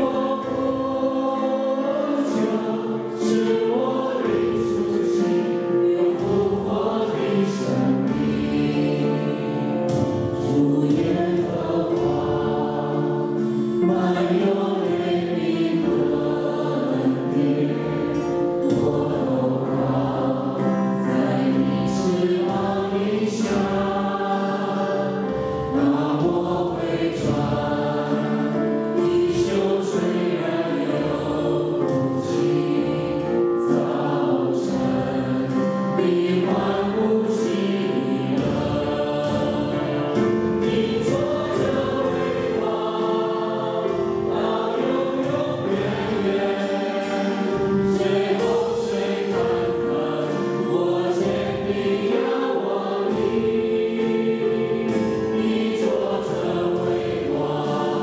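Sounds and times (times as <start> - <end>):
group singing worship song: 0.0 - 58.0.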